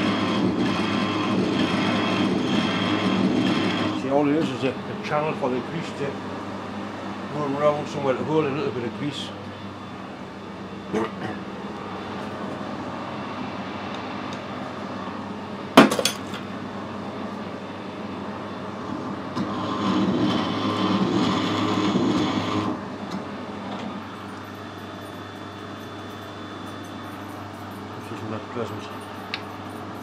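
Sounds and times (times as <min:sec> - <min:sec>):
lathe machine hum: 0:00.0 - 0:15.7, 0:16.5 - 0:30.0.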